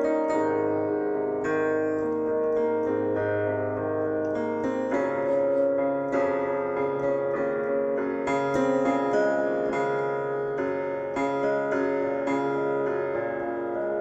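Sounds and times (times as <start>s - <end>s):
piano playing chords: 0.0s - 14.0s.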